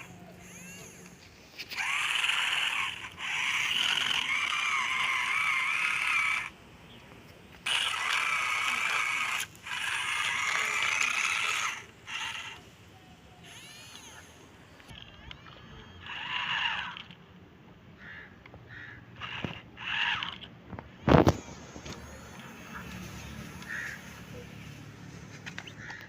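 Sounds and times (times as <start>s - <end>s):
toy motor whirring: 0.0s - 6.6s, 7.6s - 17.2s, 19.2s - 24.8s.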